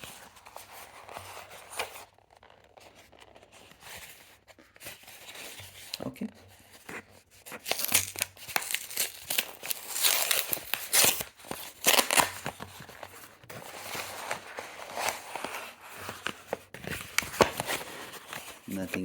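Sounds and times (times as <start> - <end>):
packaging rustling and tearing: 0.0 - 19.0.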